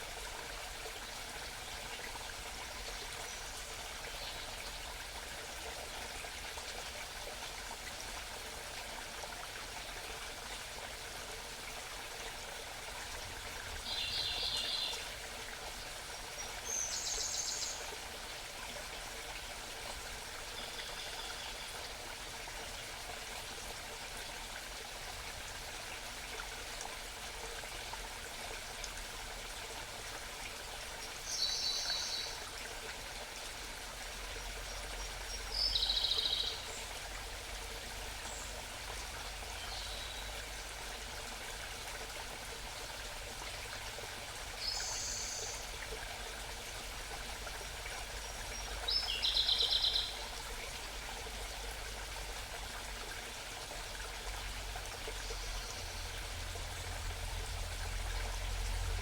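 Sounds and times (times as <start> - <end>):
mountain stream babbling: 0.0 - 59.0.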